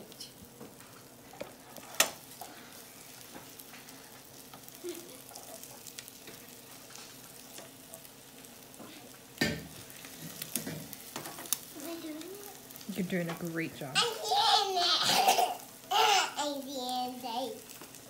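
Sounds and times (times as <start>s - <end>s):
eggs sizzling in a pan: 0.0s - 18.0s
spatula stirring: 0.2s - 14.8s.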